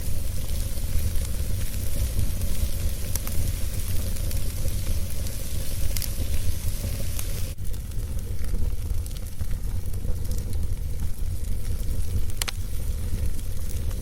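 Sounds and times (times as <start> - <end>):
fire crackles and pops: 0.0 - 14.0
wood fire rumble and hiss: 0.0 - 14.0.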